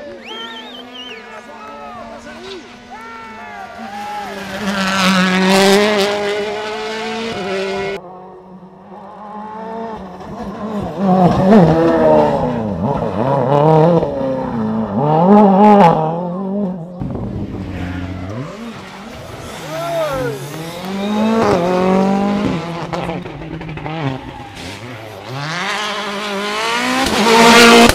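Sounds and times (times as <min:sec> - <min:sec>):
rally car engines at full throttle: 0:00.0 - 0:27.9.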